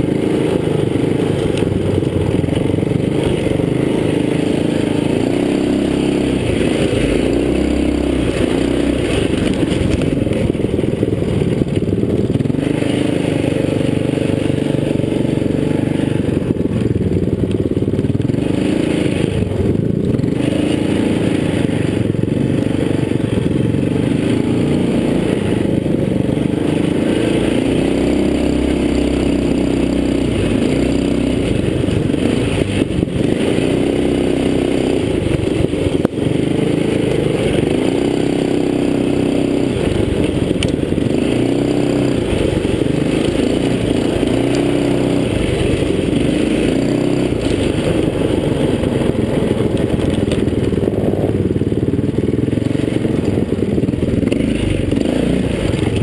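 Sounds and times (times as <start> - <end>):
bike rattling: 0.0 - 56.0
small bike engine revving: 0.0 - 56.0.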